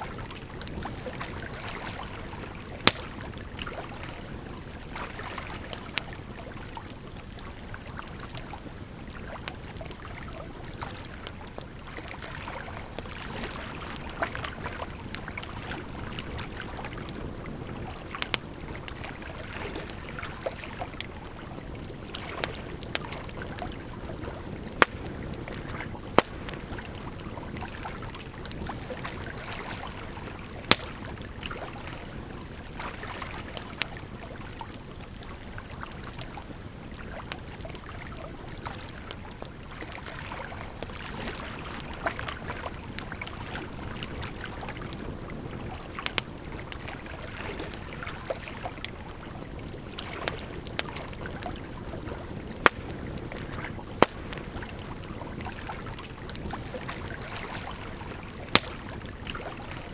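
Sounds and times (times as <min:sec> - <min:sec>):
flowing water: 0:00.0 - 0:59.9
firewood crackling: 0:00.1 - 0:39.7, 0:40.6 - 0:59.9.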